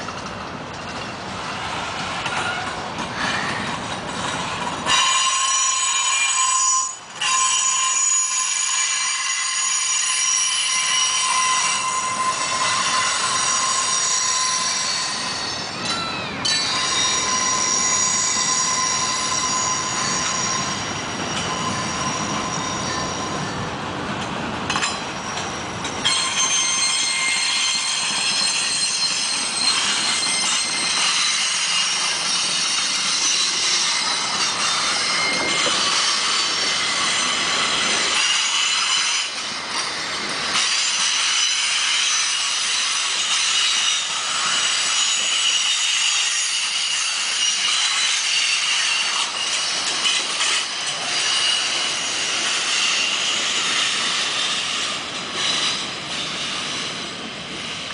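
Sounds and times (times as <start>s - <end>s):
steel wheels squealing: 0.0s - 23.8s, 24.7s - 57.9s
freight cars rattling over rails: 0.0s - 57.9s.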